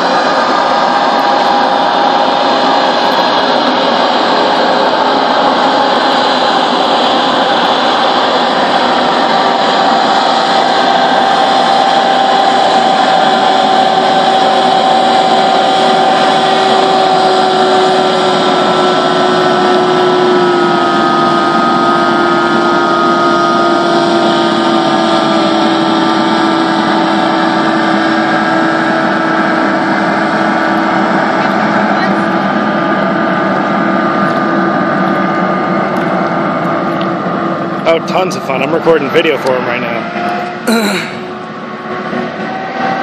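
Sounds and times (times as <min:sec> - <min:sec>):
higher whine: 0:00.0 - 0:43.0
hovercraft engine drone: 0:00.0 - 0:43.0.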